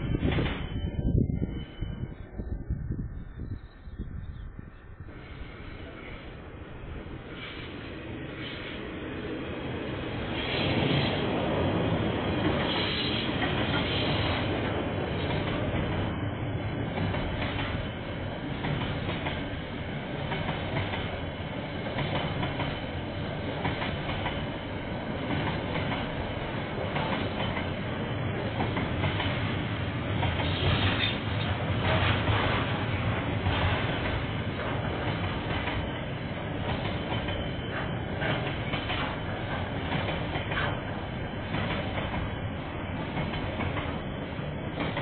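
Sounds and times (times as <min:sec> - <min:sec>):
freight train wheels clacking: 0:00.0 - 0:01.0, 0:07.1 - 0:45.0.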